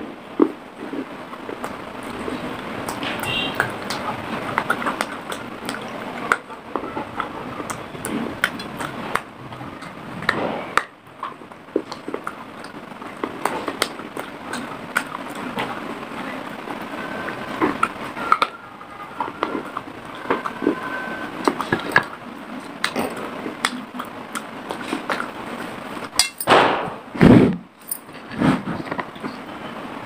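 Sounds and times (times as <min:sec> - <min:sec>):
chewing and crunching clay: 0:00.4 - 0:25.7.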